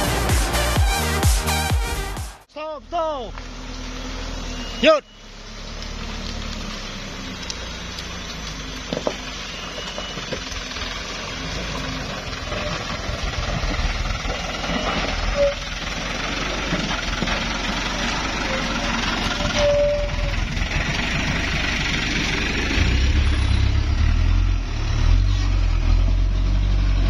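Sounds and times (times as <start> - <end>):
truck diesel engine working hard: 0.0 - 27.0.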